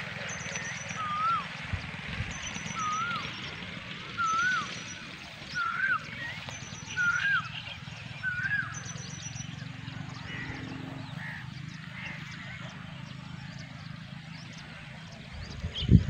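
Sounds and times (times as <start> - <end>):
birds calling: 0.0 - 16.0
high bird twittering: 0.2 - 3.6, 4.2 - 13.7.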